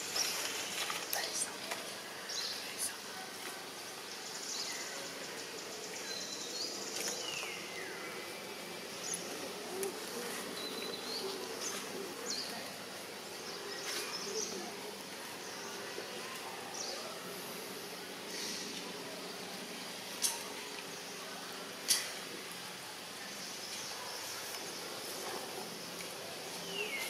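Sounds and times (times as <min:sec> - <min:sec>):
insect hum: 0:00.0 - 0:27.0.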